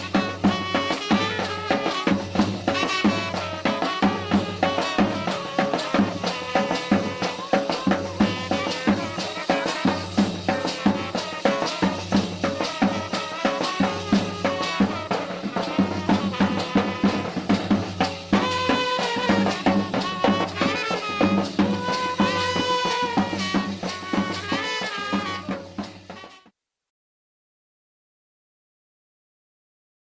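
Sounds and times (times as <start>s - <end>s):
drums and rattling percussion: 0.0s - 26.5s
pitched melody: 0.1s - 25.2s.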